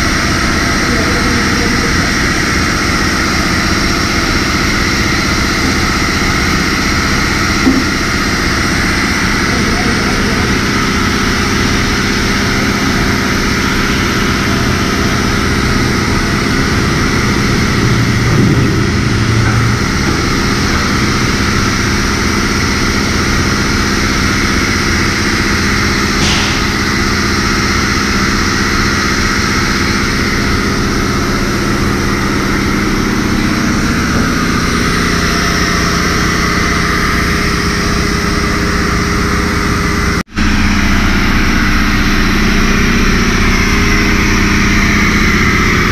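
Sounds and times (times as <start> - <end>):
pressure washer motor hum: 0.0 - 45.9.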